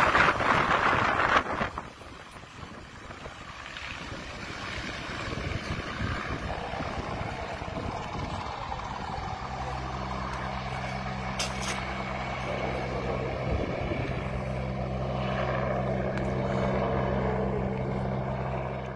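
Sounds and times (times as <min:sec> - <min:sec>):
helicopter flying away: 0:00.0 - 0:18.9
low engine hum: 0:00.0 - 0:18.9.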